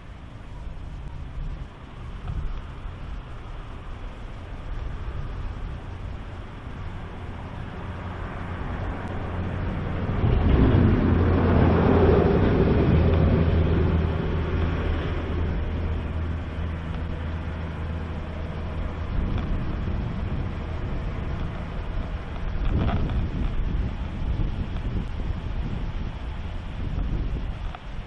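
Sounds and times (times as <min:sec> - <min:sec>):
motor vehicle passing by: 0:01.5 - 0:27.4.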